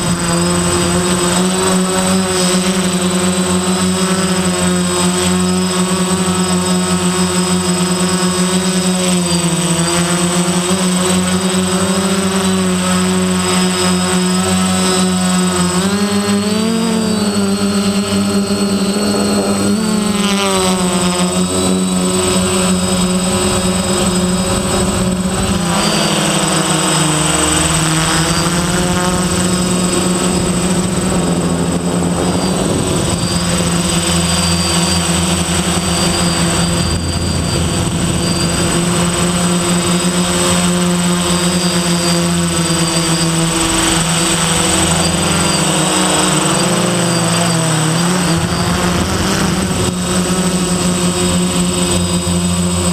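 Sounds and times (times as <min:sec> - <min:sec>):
quadcopter motors and propellers: 0:00.0 - 0:52.9.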